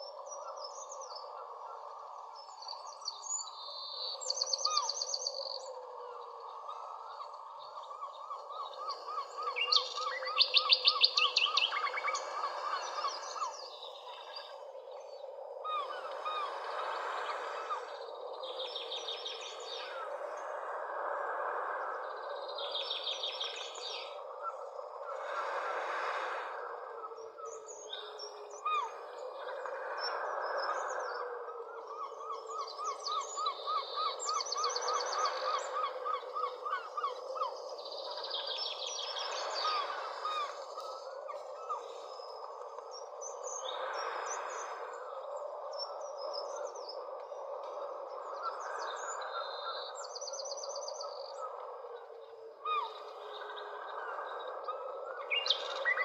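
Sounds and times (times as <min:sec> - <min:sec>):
birds chirping and trilling: 0:00.0 - 0:20.2, 0:22.0 - 0:26.5, 0:31.8 - 0:47.4, 0:48.0 - 0:56.0.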